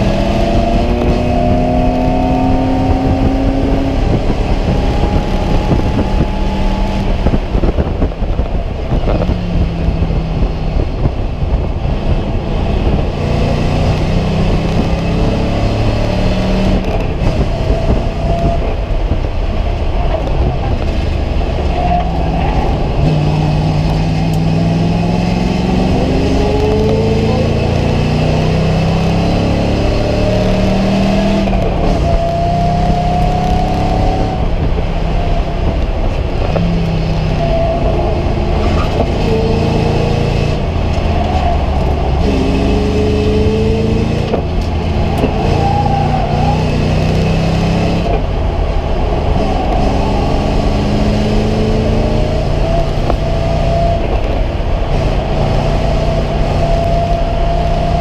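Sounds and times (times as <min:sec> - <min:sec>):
race car engine revving: 0:00.0 - 0:58.0
road and wind noise: 0:00.0 - 0:58.0.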